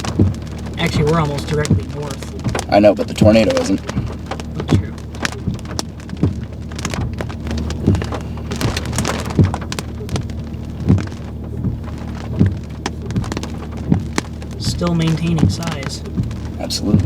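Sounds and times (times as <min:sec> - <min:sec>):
heavy drops striking close: 0:00.0 - 0:17.0
rain falling: 0:00.0 - 0:17.0
steady low hum: 0:00.0 - 0:17.0.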